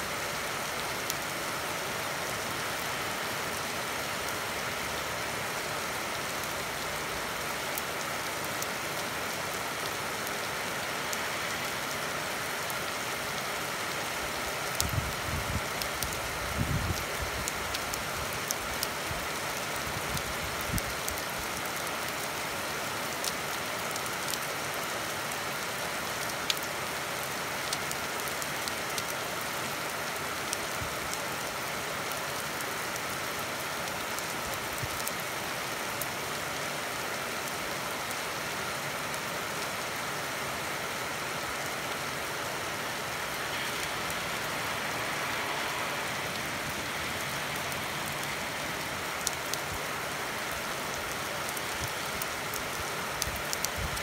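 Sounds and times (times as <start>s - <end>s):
steady rain falling: 0.0s - 54.0s
raindrops ticking on surfaces: 0.1s - 54.0s.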